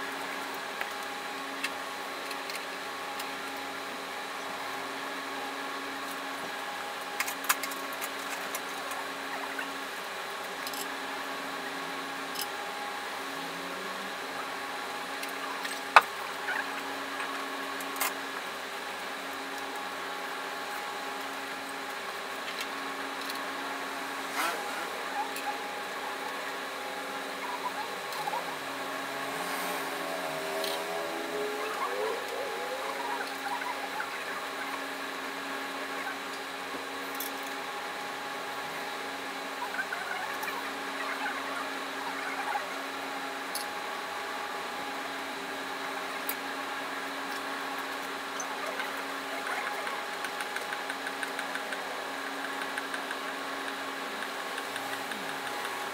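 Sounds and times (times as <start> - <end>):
steady hum: 0.0 - 55.9.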